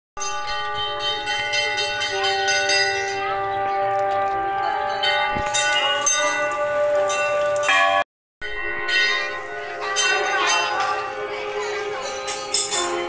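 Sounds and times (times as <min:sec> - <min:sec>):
brass bells ringing: 0:00.2 - 0:13.0.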